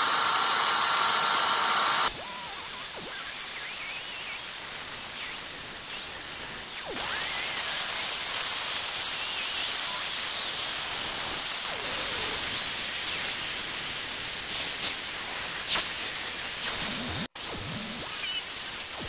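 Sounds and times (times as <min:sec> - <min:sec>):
drill boring into wood: 0:00.0 - 0:17.3.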